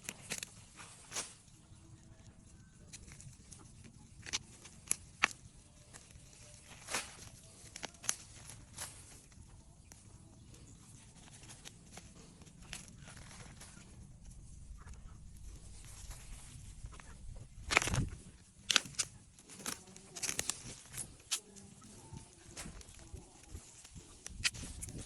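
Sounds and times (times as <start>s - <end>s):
plant stalks snapping: 0.0s - 13.9s, 14.8s - 25.0s
leaves rustling: 0.0s - 25.0s.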